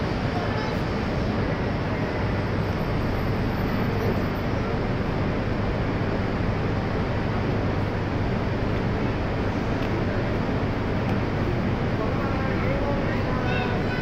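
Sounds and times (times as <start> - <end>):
constant low hum: 0.0 - 14.0
train rumble and hiss: 0.0 - 14.0.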